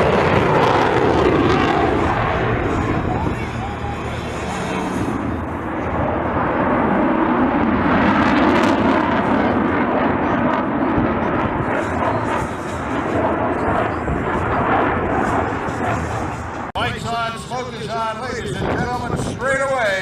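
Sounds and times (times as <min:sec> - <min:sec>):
airplane flying past: 0:00.0 - 0:20.0.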